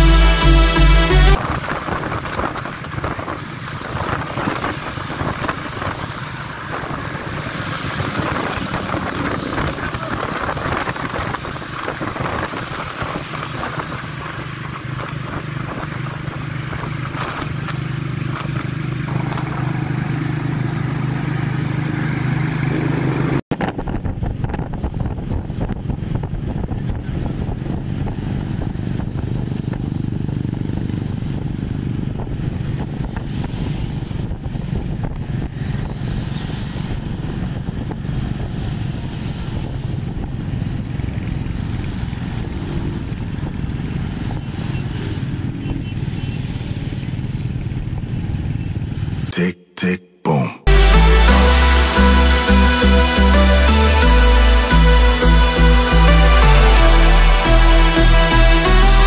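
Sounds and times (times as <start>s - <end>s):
motorcycle engines cruising: 1.3s - 49.3s
wind and road noise: 1.3s - 49.3s.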